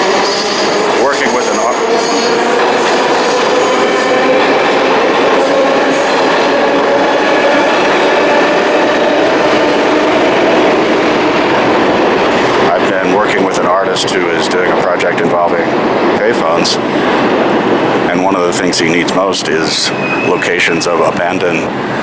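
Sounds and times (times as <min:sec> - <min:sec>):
subway train wheels rumbling on rail: 0:00.0 - 0:22.0.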